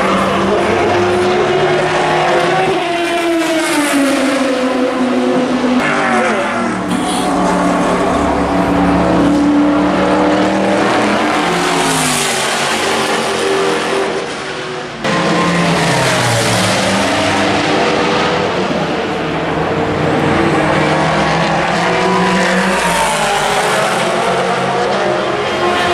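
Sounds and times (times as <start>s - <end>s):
race cars passing at speed: 0.0s - 25.9s.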